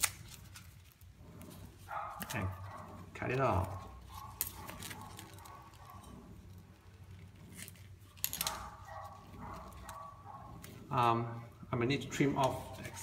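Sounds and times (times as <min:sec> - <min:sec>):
soft rustling of tape: 0:00.0 - 0:13.0.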